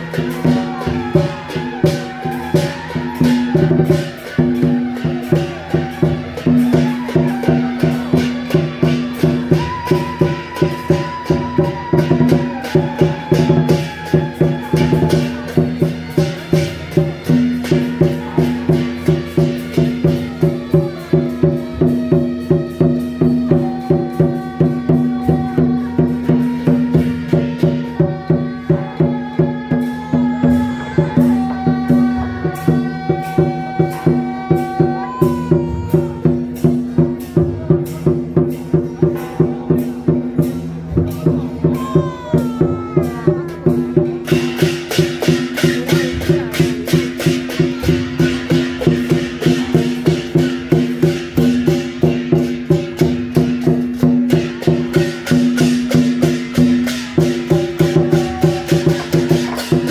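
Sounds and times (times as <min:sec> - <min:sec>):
fast percussion beat: 0:00.0 - 0:59.9.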